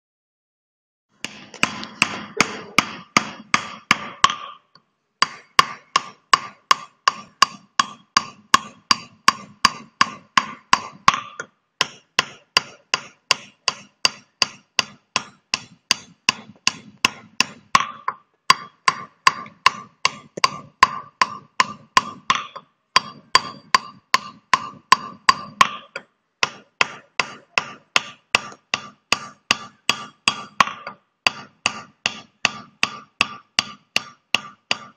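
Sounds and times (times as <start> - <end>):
hammer tapping steel chisel on stone: 1.2 - 34.9.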